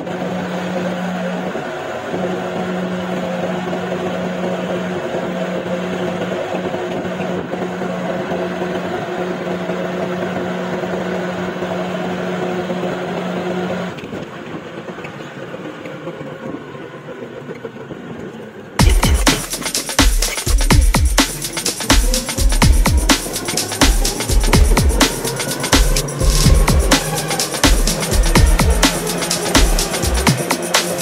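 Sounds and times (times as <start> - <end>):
auto-rickshaw engine hum: 0.0 - 31.0
road noise: 0.0 - 31.0.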